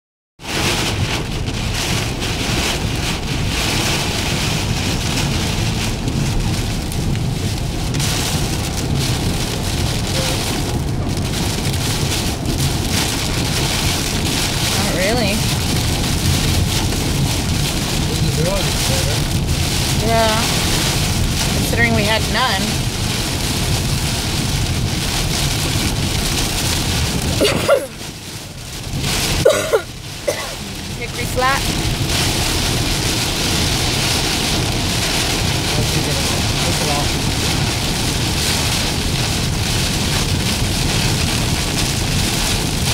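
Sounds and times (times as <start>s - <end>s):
heavy rain on car roof: 0.4s - 42.9s
tyre and road rumble: 0.4s - 42.9s.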